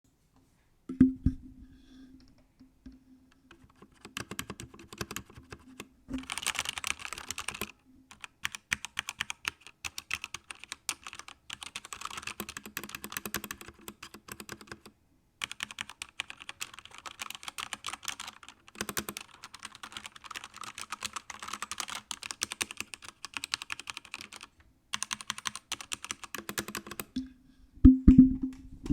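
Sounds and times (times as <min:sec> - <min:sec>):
mechanical keyboard typing: 0:03.5 - 0:27.1.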